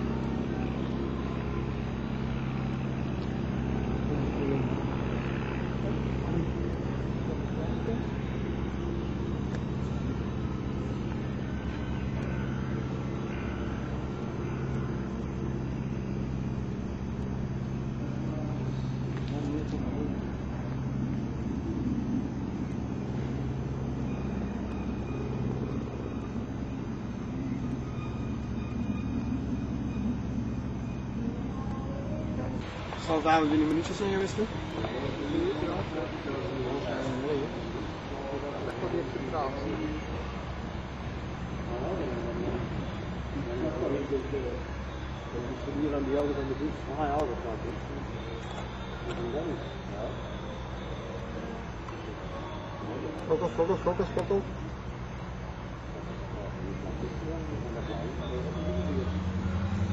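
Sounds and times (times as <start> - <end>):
biplane propeller drone: 0.0 - 59.9.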